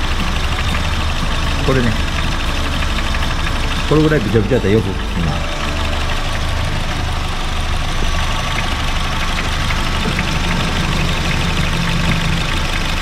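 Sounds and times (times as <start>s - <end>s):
air conditioning compressor rumble: 0.0s - 13.0s
car engine idling: 0.0s - 13.0s
fast light ticking: 0.0s - 13.0s.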